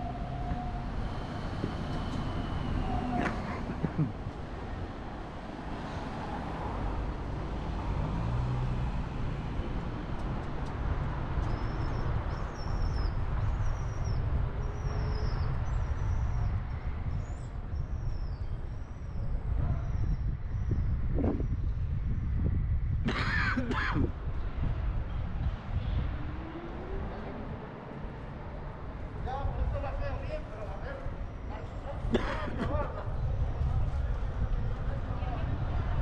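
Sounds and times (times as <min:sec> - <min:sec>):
passing cars rumble: 0:00.0 - 0:36.0.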